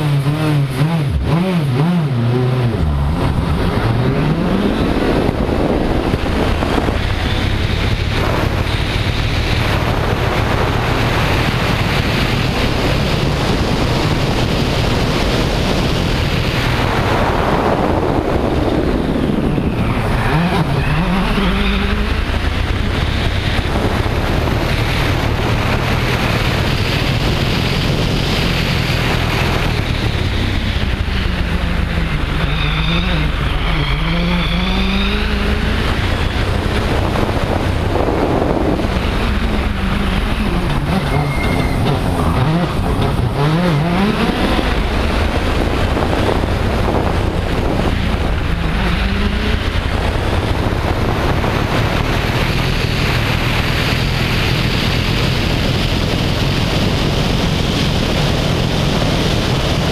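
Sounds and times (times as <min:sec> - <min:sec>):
rally engine revving: 0:00.0 - 0:59.9
wind and road noise: 0:00.0 - 0:59.9.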